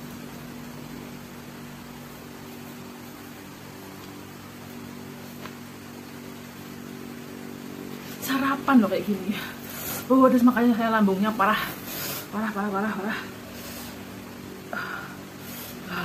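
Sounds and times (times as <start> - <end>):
appliance hum and hiss: 0.0 - 16.0.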